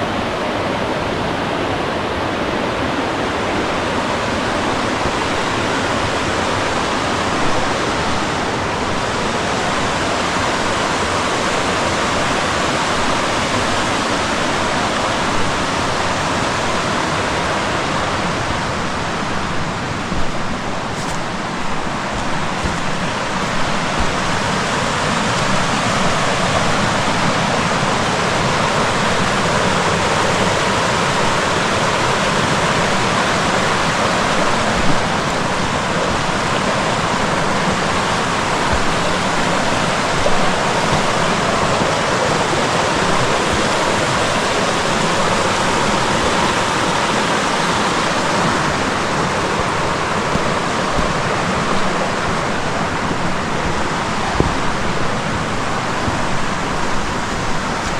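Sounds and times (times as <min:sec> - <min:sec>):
creek and waterfall rushing: 0:00.0 - 0:57.9.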